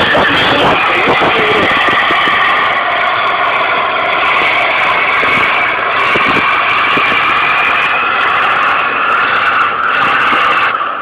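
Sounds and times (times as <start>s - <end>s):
tractor diesel engine: 0.0s - 11.0s.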